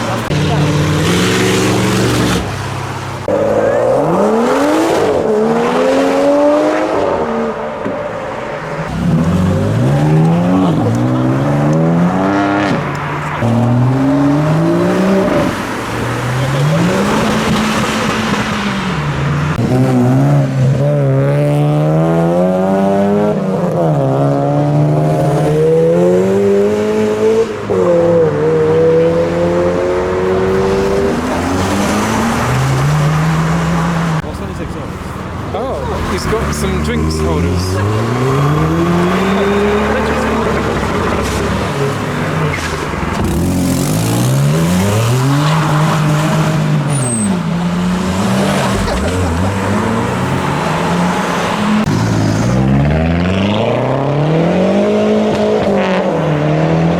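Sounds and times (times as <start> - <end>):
car engines revving hard: 0.0 - 56.9.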